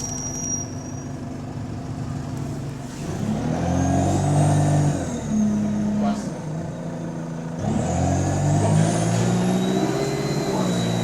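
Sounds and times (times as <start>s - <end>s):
diesel bus engine: 0.0s - 11.0s.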